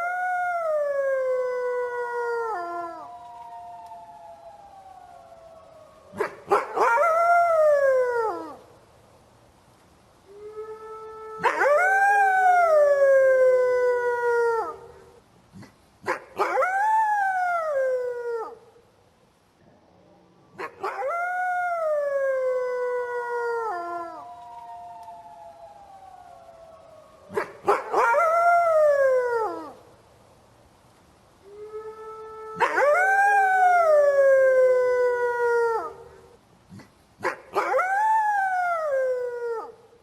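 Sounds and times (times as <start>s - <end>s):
wolf howling: 0.0s - 8.6s, 10.3s - 15.0s, 16.1s - 18.7s, 20.0s - 29.8s, 31.5s - 36.4s, 37.2s - 39.8s
lower steady howl: 0.0s - 40.0s.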